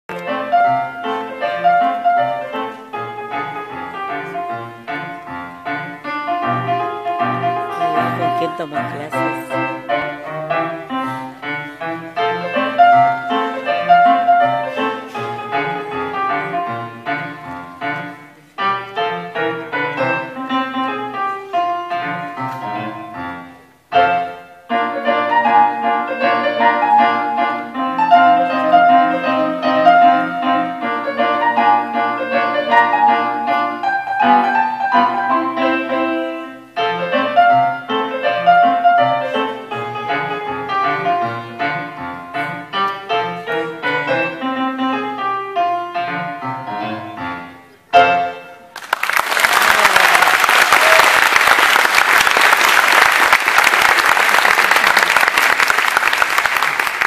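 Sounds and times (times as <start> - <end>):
solo grand piano piece: 0.1 - 48.8.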